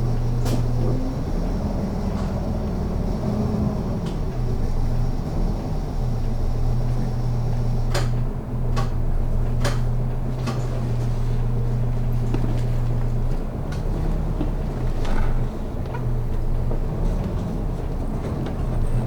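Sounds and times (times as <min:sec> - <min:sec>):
bus engine humming: 0:00.0 - 0:19.0.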